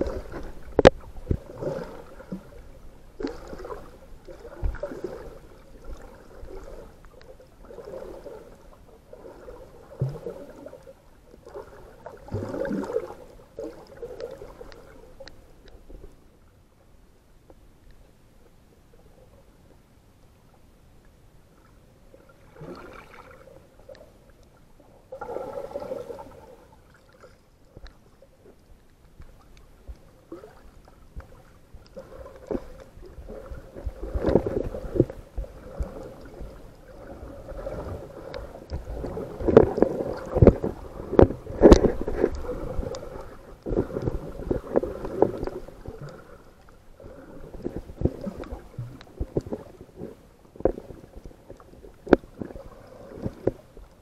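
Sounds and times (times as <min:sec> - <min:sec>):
water sloshing and gurgling: 0:00.0 - 0:17.0, 0:21.4 - 0:54.0.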